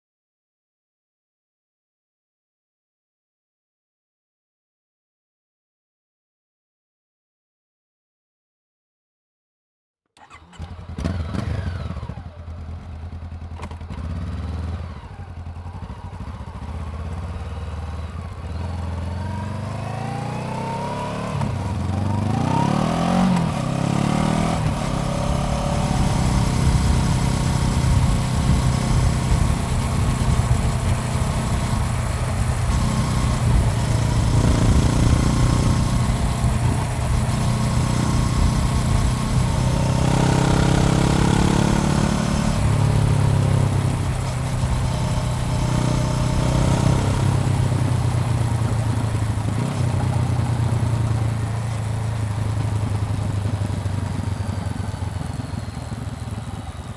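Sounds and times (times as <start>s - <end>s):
motorcycle engine running: 10.2s - 56.9s.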